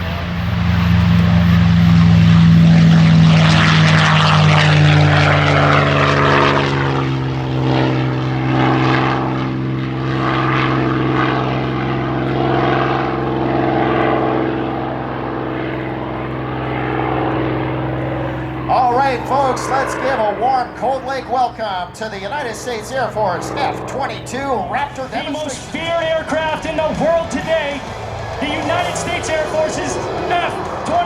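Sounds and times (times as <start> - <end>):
propeller plane flying by: 0.0 - 31.0.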